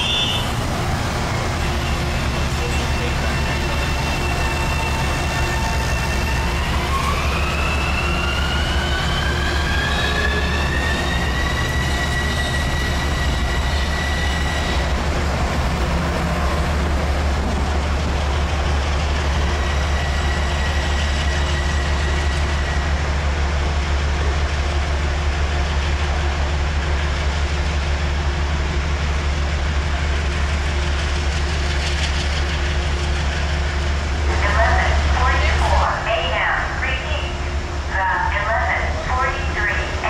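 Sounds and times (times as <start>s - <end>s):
train rumbling: 0.0s - 40.0s.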